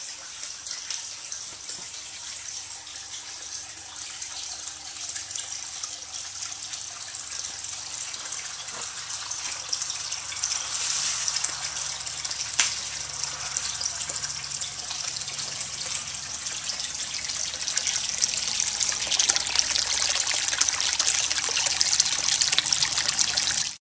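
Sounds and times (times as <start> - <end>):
water pouring into fish tank: 0.0 - 23.8.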